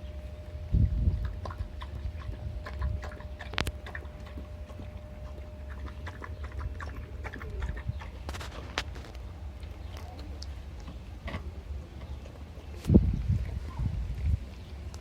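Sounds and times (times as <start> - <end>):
wind rumbling on microphone: 0.0 - 10.0, 12.1 - 15.0
puppies suckling: 0.7 - 15.0.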